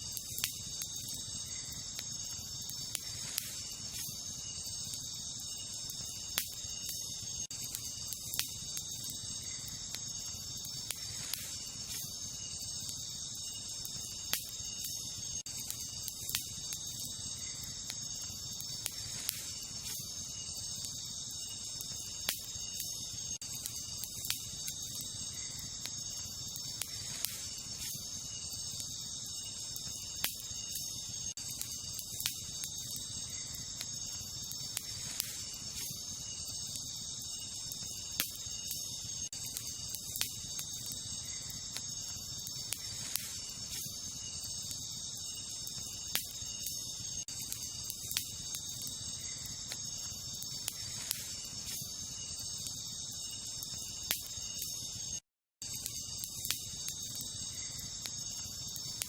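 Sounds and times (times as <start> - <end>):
campfire crackling and popping: 0.0 - 59.0
night insects chirring: 0.0 - 59.0.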